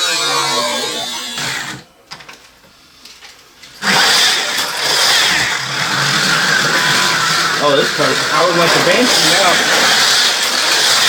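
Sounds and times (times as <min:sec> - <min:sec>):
slot car motors whining: 0:00.0 - 0:02.0, 0:03.7 - 0:11.0.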